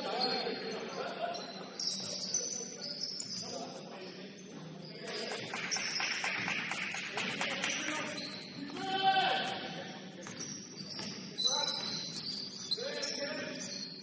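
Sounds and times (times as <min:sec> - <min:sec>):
shoes squeaking on gym floor: 0:00.0 - 0:14.0.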